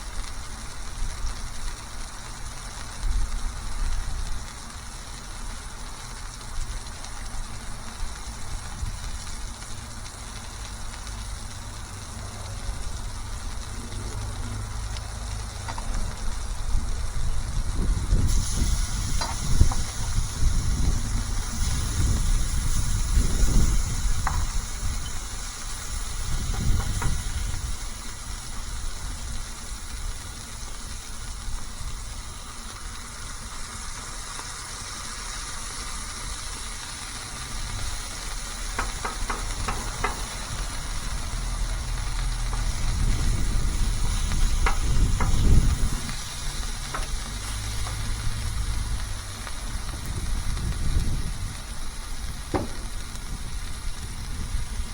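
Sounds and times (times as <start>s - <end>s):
food sizzling on griddle: 0.0s - 54.9s.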